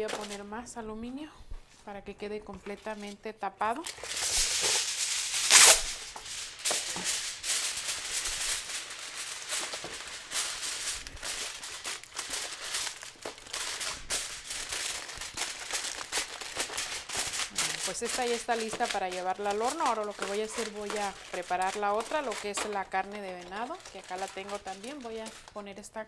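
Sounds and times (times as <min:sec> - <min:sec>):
aluminium foil crinkling: 0:00.0 - 0:00.6, 0:02.6 - 0:26.0.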